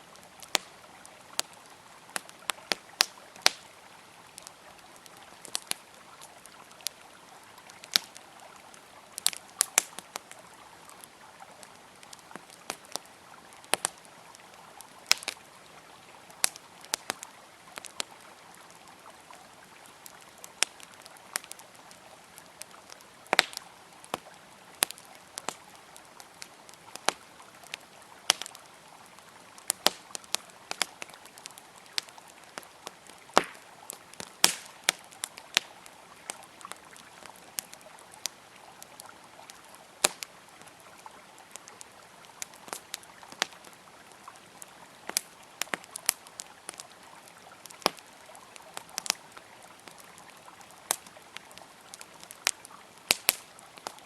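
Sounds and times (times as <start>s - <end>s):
flowing river water: 0.0s - 54.0s
wood fire crackling: 0.0s - 54.0s.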